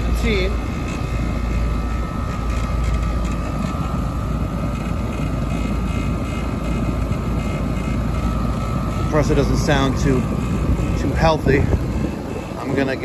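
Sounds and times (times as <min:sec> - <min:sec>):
air conditioner unit humming: 0:00.0 - 0:13.0
high whine: 0:00.0 - 0:13.0.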